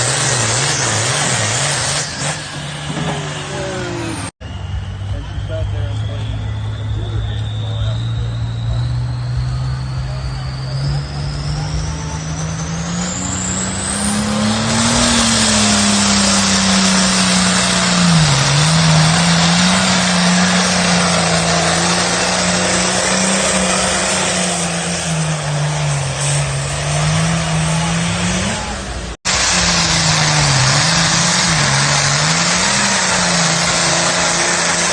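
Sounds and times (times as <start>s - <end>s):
tractor engine under load: 0.0s - 34.9s
high rising whistle: 2.0s - 34.9s.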